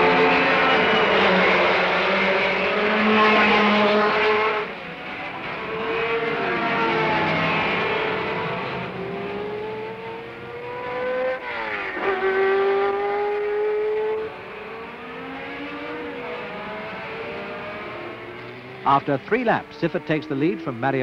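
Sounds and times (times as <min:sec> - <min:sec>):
racing car engines passing: 0:00.0 - 0:21.0.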